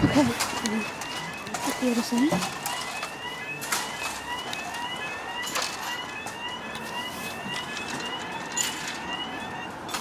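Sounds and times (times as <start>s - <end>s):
level crossing warning alarm: 0.0s - 10.0s.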